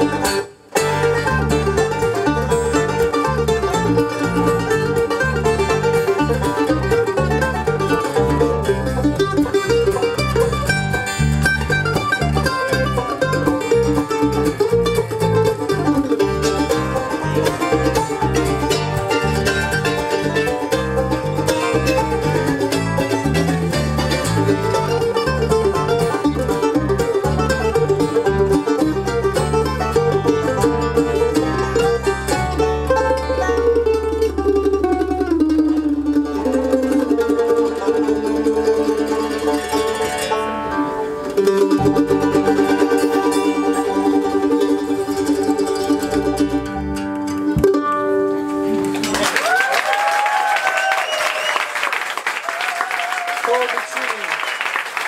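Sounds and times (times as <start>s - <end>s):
acoustic guitar: 0.0s - 49.4s
electric bass guitar: 0.0s - 49.6s
mandolin picking: 0.0s - 49.6s
banjo picking: 0.0s - 50.0s.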